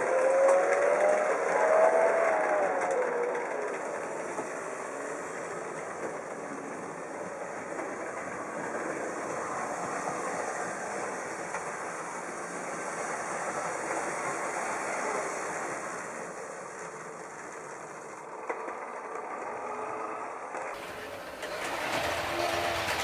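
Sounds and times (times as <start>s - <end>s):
model train running on track: 0.0s - 23.0s.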